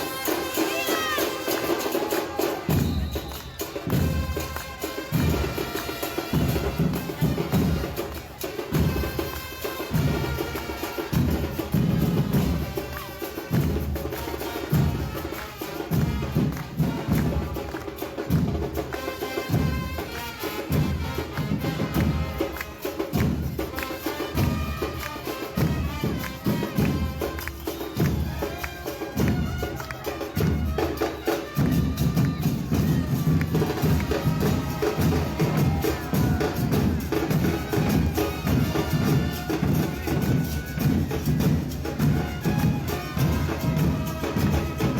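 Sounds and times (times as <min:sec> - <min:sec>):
music with wind instruments: 0:00.0 - 0:44.9.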